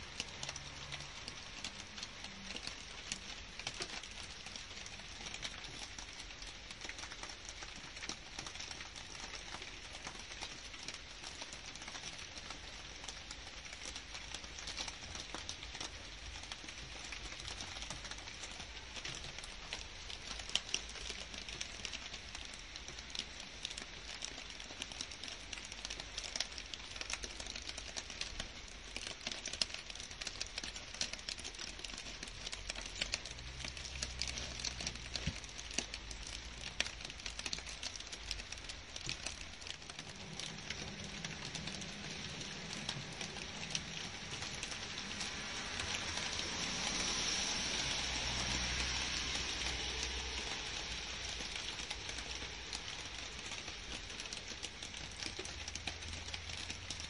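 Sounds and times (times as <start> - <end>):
rain falling on leaves and grass: 0.0 - 57.0.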